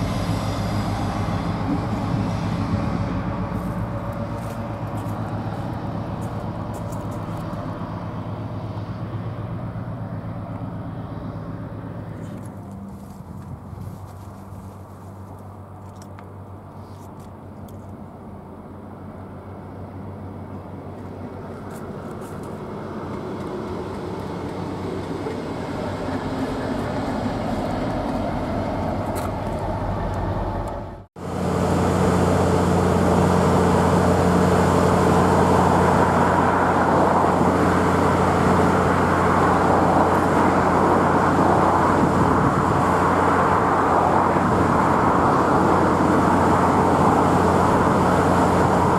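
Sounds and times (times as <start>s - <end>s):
diesel locomotive engine hum: 0.0s - 48.9s
diesel locomotive engine running: 0.0s - 48.9s.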